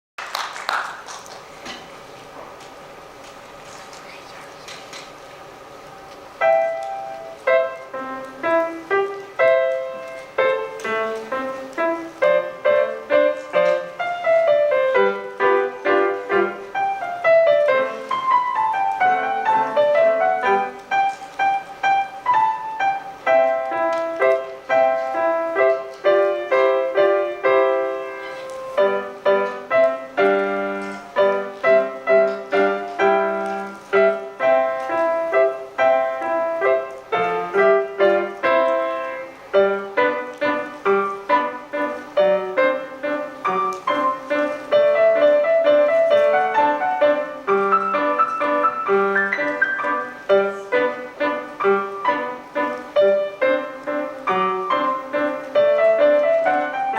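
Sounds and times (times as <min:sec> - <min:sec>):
solo piano piece: 0:00.9 - 0:56.9.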